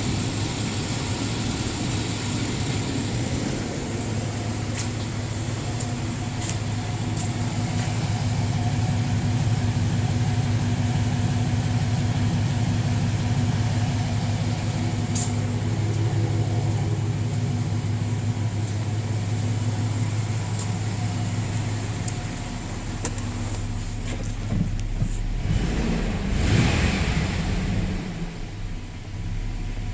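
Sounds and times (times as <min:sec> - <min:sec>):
truck engine idling: 0:00.0 - 0:29.9.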